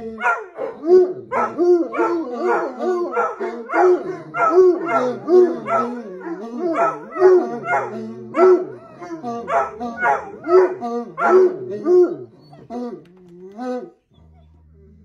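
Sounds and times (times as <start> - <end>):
dogs howling and baying: 0.0 - 15.0.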